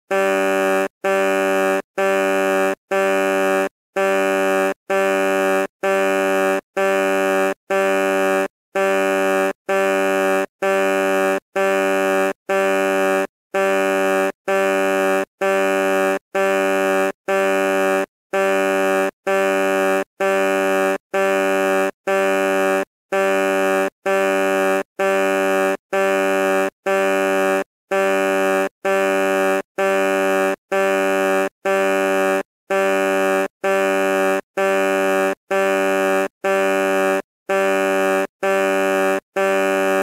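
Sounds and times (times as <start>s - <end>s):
truck horn blasts: 0.0s - 40.0s.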